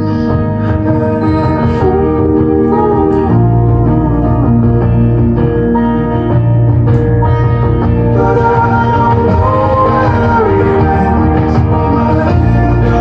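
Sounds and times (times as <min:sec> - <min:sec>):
instrumental music: 0:00.0 - 0:13.0
strong bass line: 0:00.0 - 0:13.0.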